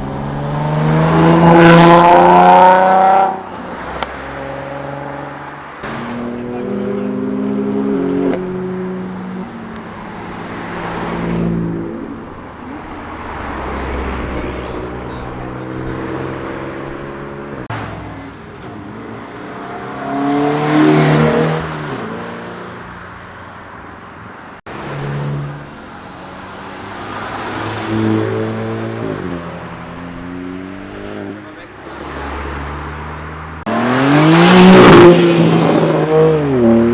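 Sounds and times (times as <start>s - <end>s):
cars passing by: 0.0s - 36.9s.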